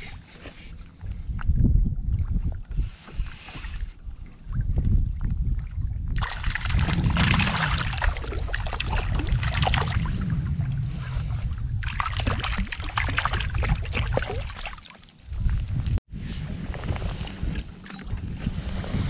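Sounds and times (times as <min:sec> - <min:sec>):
water sloshing and splashing: 0:00.0 - 0:16.0, 0:16.7 - 0:19.0
wind buffeting microphone: 0:00.9 - 0:14.5, 0:15.3 - 0:19.0.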